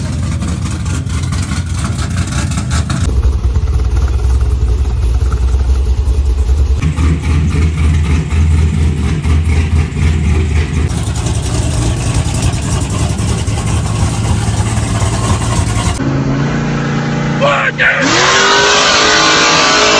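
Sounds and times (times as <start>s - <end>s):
engine rumbling: 0.0s - 19.9s.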